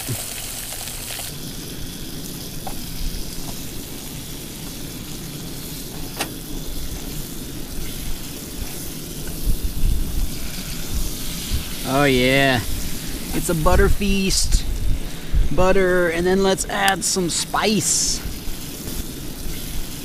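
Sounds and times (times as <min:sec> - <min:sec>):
fish sizzling in a pan: 0:00.0 - 0:20.0.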